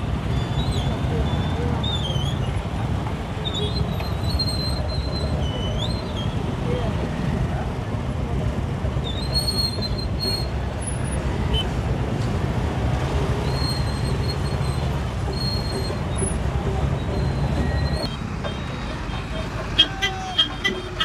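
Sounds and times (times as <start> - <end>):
motorcycle and car engines rumbling: 0.0 - 21.0.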